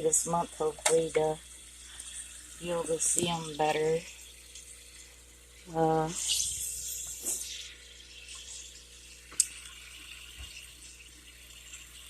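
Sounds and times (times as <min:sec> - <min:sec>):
aquarium water trickling: 0:00.0 - 0:12.0.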